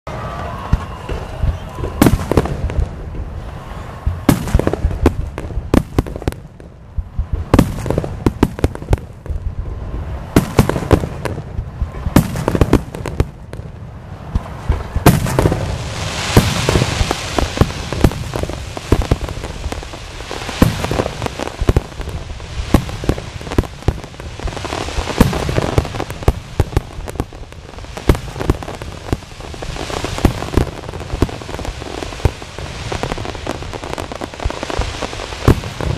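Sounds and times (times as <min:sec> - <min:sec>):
firework bangs: 0:00.1 - 0:35.9
firework hissing crackle: 0:00.2 - 0:35.9.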